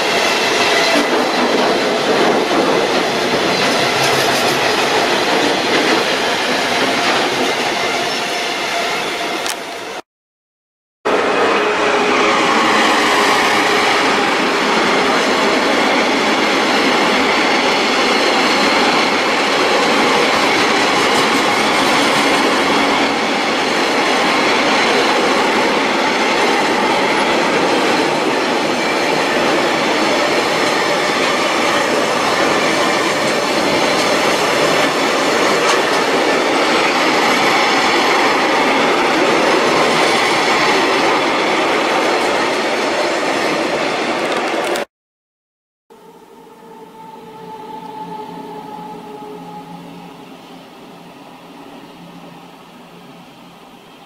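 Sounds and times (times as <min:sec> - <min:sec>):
freight train passing at speed: 0:00.0 - 0:10.0, 0:11.1 - 0:44.9, 0:45.9 - 0:54.0.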